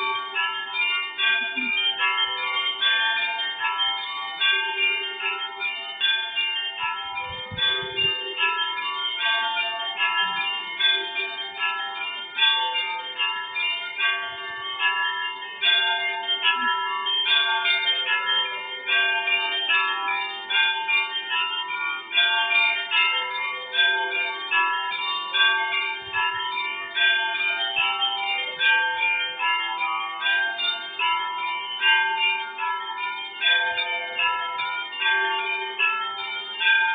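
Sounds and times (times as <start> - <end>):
church bells ringing: 0.0 - 36.9.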